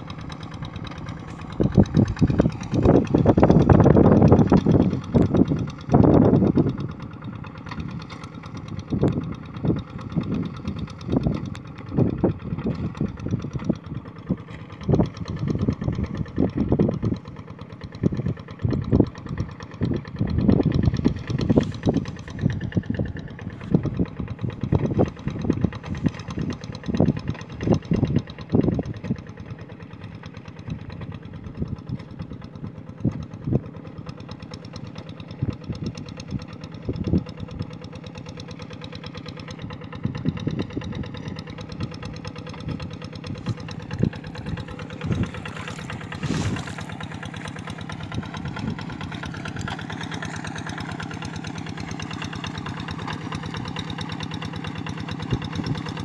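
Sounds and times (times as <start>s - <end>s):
diesel hand tractor running: 0.0s - 56.0s.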